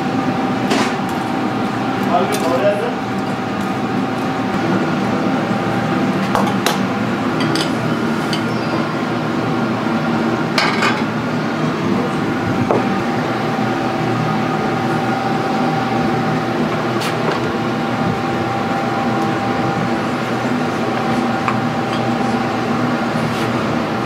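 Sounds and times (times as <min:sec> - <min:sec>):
machine hum with low drones: 0:00.0 - 0:24.0.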